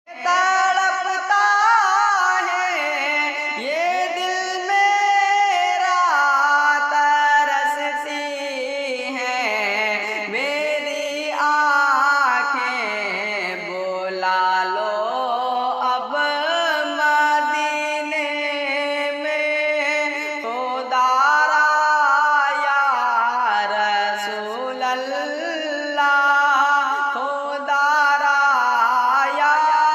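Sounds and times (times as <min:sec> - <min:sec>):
person singing devotional song: 0:00.0 - 0:29.9.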